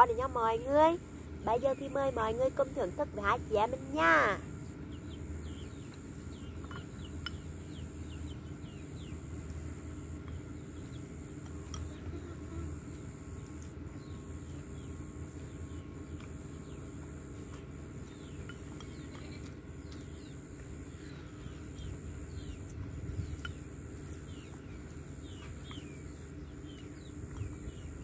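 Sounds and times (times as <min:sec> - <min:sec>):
birds chirping: 0:00.0 - 0:28.0
insect drone: 0:00.0 - 0:28.0.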